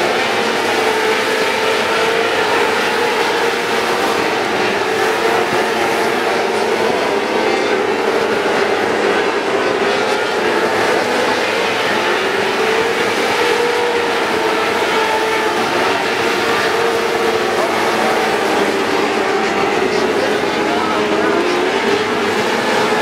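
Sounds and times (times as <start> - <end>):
race car engines droning: 0.0 - 23.0.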